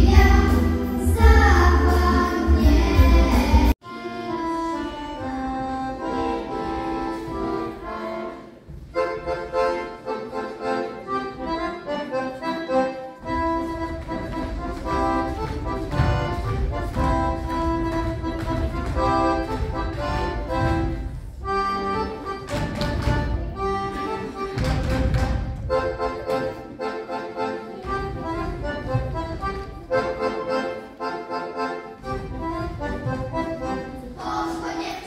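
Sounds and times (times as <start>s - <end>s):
accordion folk dance music: 0.0s - 35.0s.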